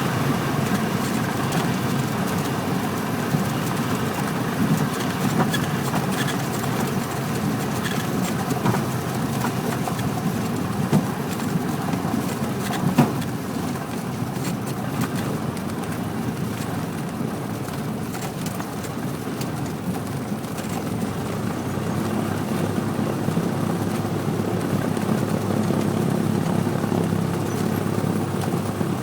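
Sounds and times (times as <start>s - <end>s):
airplane engine and propeller drone: 0.0s - 29.0s.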